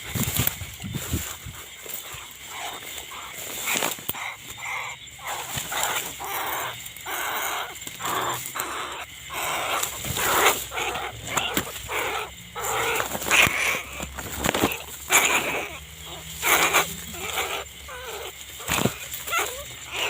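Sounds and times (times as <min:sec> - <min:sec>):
animal calling: 0:00.0 - 0:20.0.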